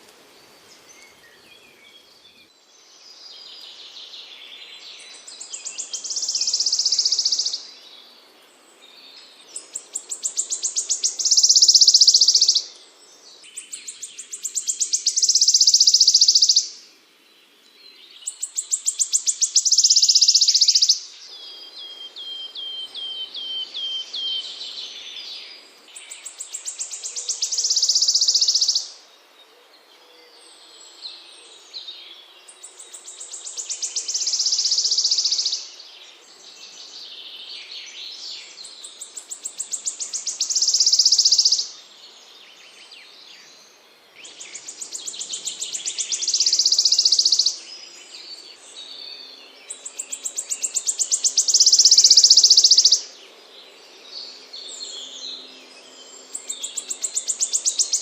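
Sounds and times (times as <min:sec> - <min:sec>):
songbird singing buzzing trill: 0:00.0 - 0:58.0.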